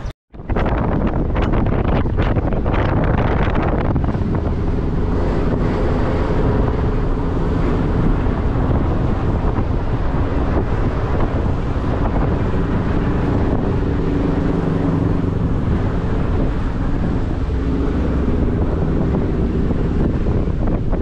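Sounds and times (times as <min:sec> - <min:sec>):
low engine hum: 0:00.0 - 0:21.0
wind rumble on microphone: 0:00.0 - 0:21.0.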